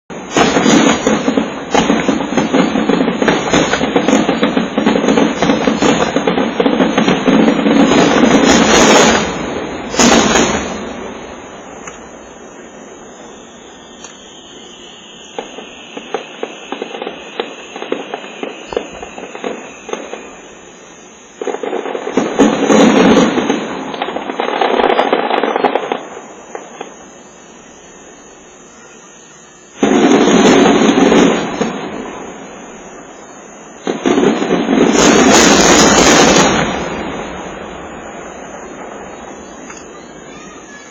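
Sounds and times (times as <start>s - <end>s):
falling firework whistle: 0.1s - 40.9s
firework bang: 0.1s - 40.9s
fireworks booming: 0.1s - 40.9s
fireworks crackling: 0.1s - 40.9s.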